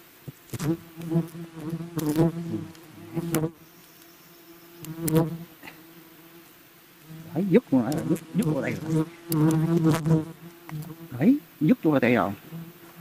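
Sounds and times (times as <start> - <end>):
swarm of bees buzzing: 0.0 - 13.0
bee flying past buzzing: 0.4 - 11.4.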